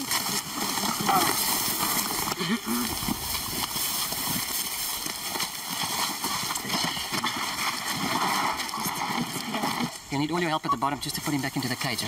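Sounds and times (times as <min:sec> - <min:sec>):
footsteps in dry grass: 0:00.0 - 0:10.1.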